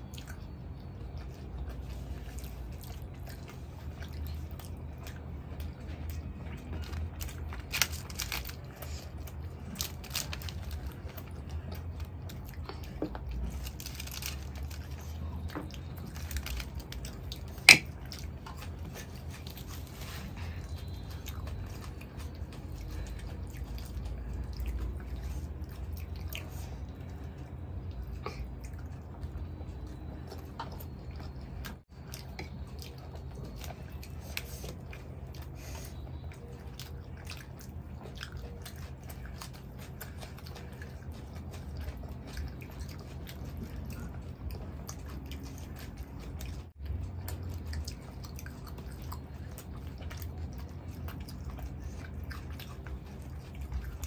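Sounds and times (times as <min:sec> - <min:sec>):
low steady hum: 0:00.0 - 0:54.0
people chewing: 0:00.0 - 0:54.0.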